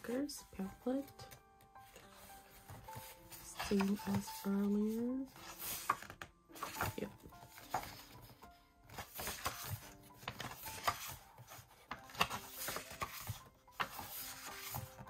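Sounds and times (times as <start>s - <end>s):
soft piano music: 0.0s - 15.0s
paper cards rustling and tapping: 0.5s - 15.0s.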